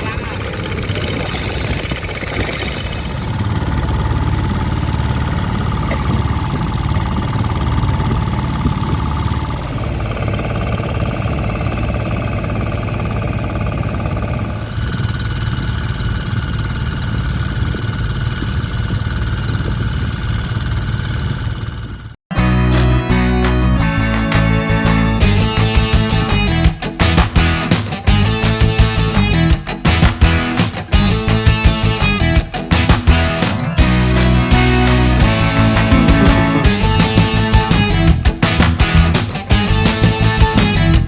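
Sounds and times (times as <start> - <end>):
engine running with knocking beat: 0.0 - 41.0.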